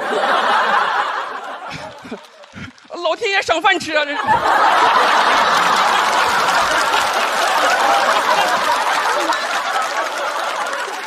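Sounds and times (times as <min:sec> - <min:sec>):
audience laughing: 0:00.0 - 0:02.9, 0:03.8 - 0:11.0
audience clapping: 0:00.0 - 0:11.0.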